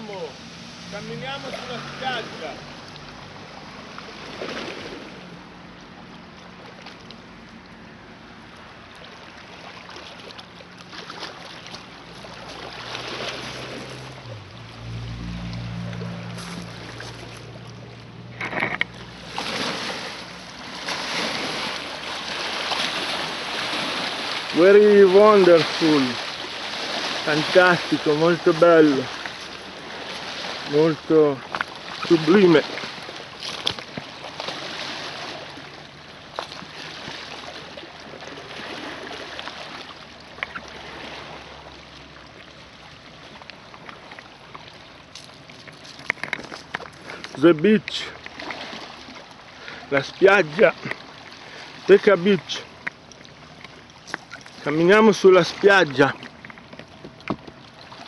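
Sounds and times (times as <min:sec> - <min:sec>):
waves lapping over rocks: 0:00.0 - 0:58.0.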